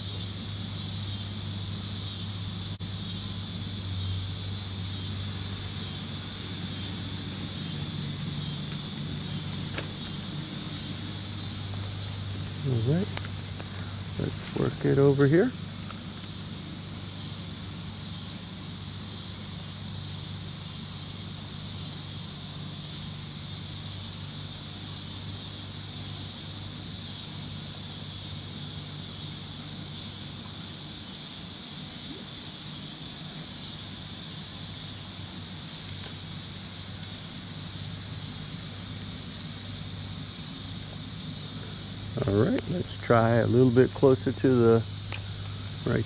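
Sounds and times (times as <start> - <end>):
insects chorus: 0.0 - 46.0
low even hum: 0.0 - 46.0.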